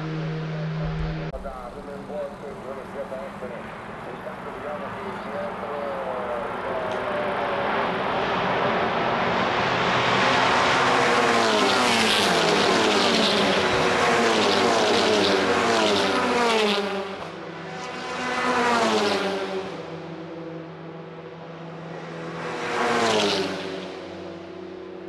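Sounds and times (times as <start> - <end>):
racing cars passing at speed: 0.0 - 25.0.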